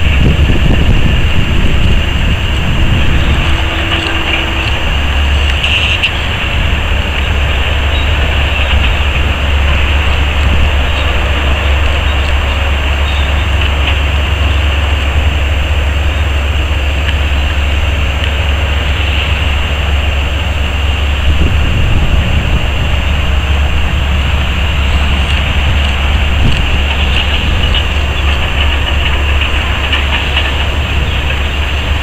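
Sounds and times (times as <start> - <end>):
heavy diesel machinery rumbling: 0.0 - 32.0.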